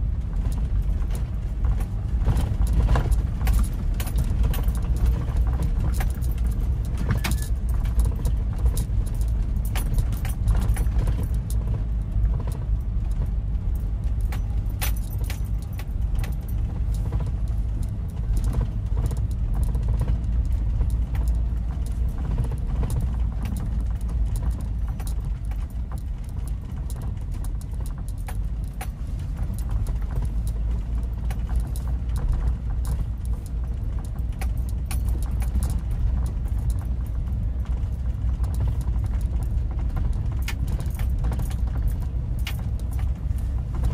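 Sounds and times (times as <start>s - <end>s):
car road and engine rumble: 0.0s - 43.9s
small rattles and clicks: 0.1s - 43.9s.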